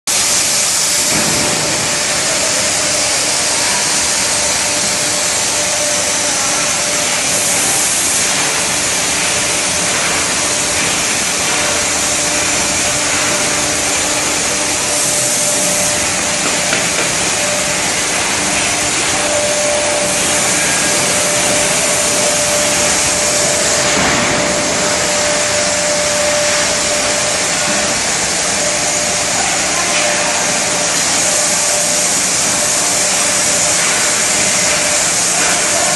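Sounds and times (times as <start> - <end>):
machine whir and hiss: 0.1 - 35.9.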